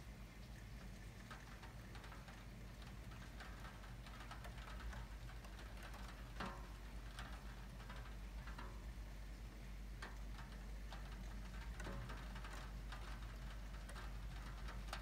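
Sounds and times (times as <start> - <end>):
raindrops tapping: 0.4 - 15.0.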